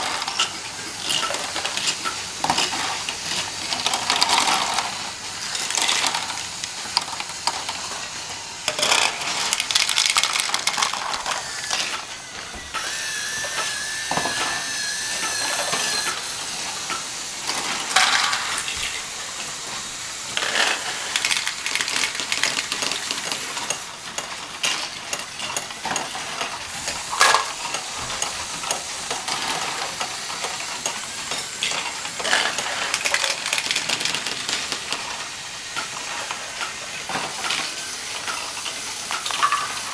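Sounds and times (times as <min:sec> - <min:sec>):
small hard pieces clattering: 0:00.0 - 0:39.9.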